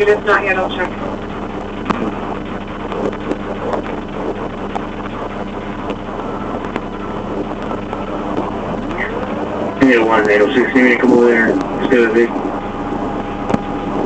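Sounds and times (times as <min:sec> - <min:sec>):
car engine low hum: 0:00.0 - 0:14.0.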